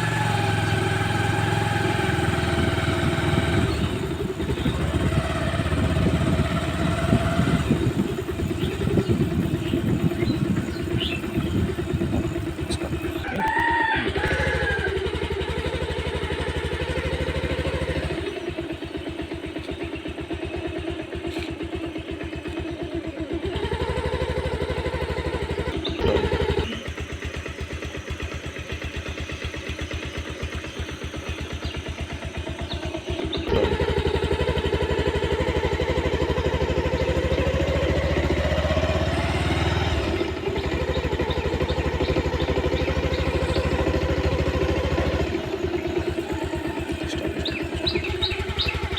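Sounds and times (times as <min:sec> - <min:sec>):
motor engine humming: 0:00.0 - 0:48.9.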